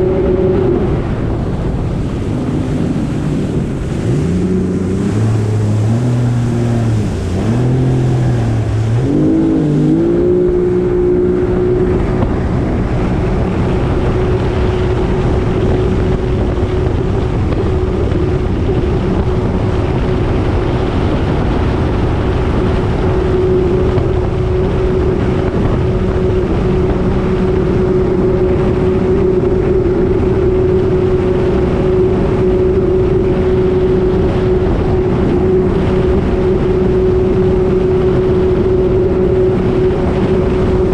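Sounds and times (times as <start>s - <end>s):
jet ski engine revving: 0.0s - 40.9s
wind and water noise on microphone: 0.0s - 40.9s.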